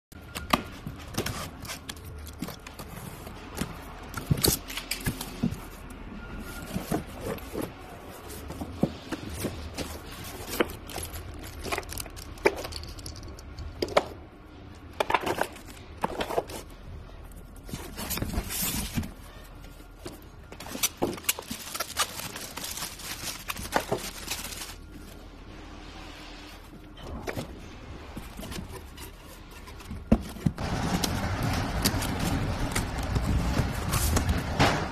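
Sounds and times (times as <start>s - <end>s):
packaging scraping and rustling: 0.2s - 13.7s, 15.0s - 34.9s.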